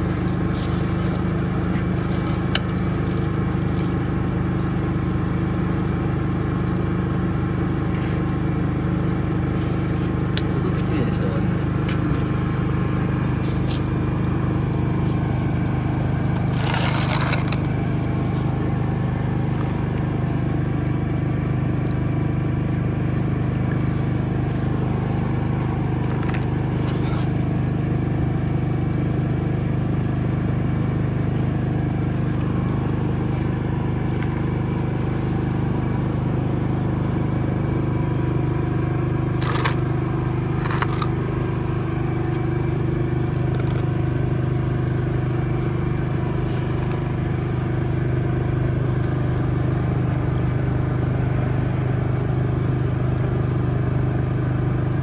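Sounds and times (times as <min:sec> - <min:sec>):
drain-jetting machine humming: 0:00.0 - 0:55.0.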